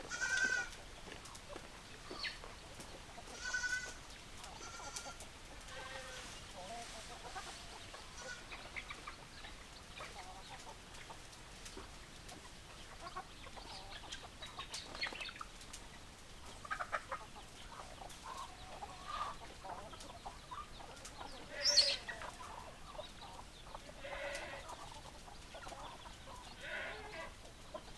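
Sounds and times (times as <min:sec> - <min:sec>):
chickens clucking: 0:00.0 - 0:27.9.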